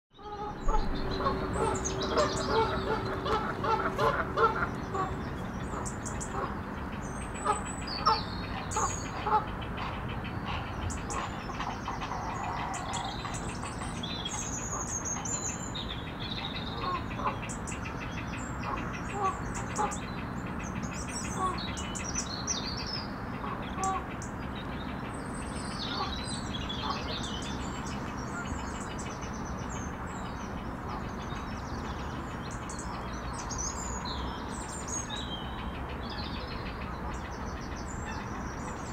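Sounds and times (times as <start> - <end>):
birds chirping and calling: 0.2 - 38.9
low background hum: 0.2 - 38.9.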